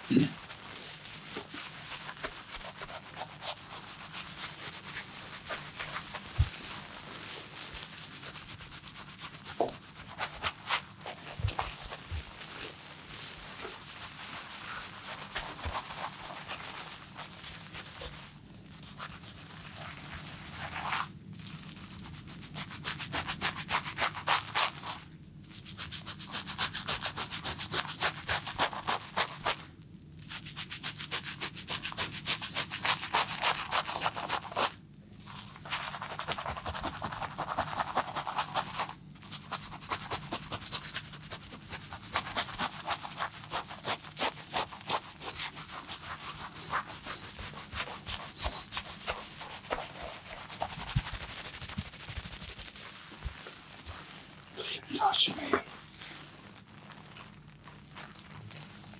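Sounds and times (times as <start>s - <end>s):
hands rubbing body: 0.0s - 29.6s, 30.2s - 58.9s.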